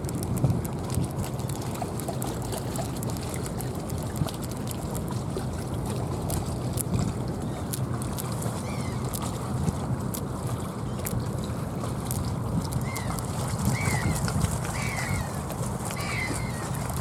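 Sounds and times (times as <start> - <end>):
river water lapping at shore: 0.0 - 17.0
small clicks and splashes: 0.0 - 17.0.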